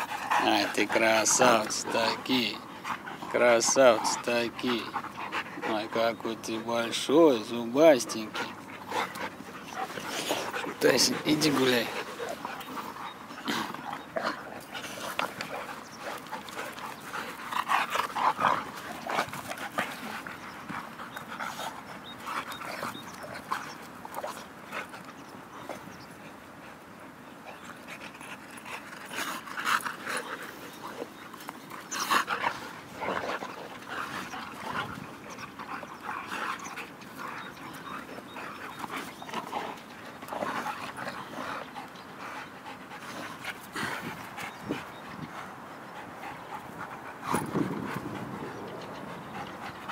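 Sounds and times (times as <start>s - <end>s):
dogs panting: 0.0s - 49.9s.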